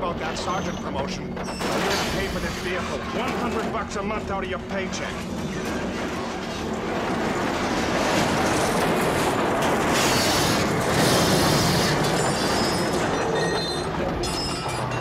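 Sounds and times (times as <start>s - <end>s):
metal grinding and crunching: 0.1s - 15.0s.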